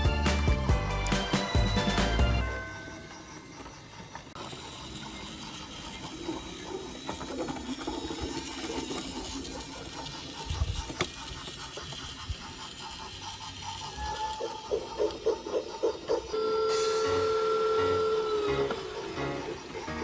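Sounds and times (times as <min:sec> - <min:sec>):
wheels ticking along track: 0:00.0 - 0:20.0
toy train motor whirring: 0:00.9 - 0:20.0.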